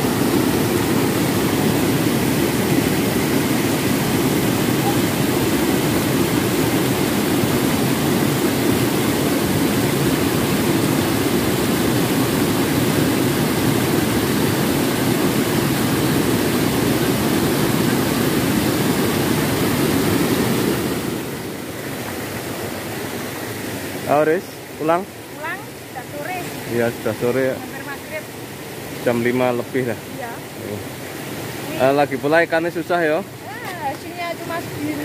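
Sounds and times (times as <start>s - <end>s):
river water rushing over rocks: 0.0s - 35.0s.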